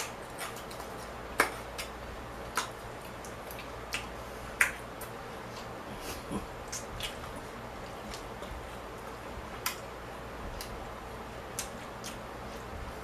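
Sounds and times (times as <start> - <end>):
chewing smacks and clicks: 0.0 - 10.8, 11.4 - 12.8
low background hum: 0.0 - 13.0.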